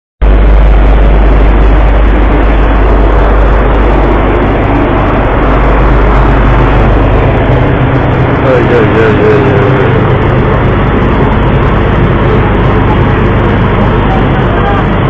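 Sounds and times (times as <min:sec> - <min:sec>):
boat engine drone: 0:00.2 - 0:15.0
rushing noise: 0:00.2 - 0:15.0.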